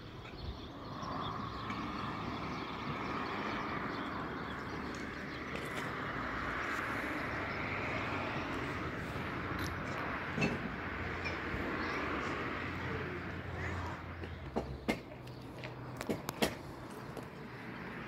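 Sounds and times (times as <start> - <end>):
distant motor engine: 0.0 - 18.0.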